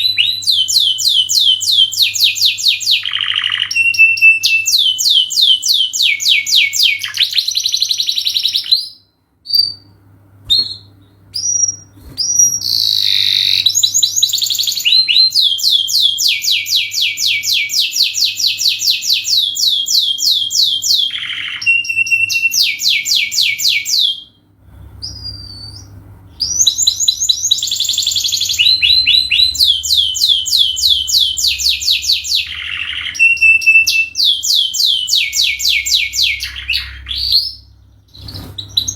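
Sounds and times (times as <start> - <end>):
canary singing trills: 0.0 - 24.4, 25.0 - 38.9.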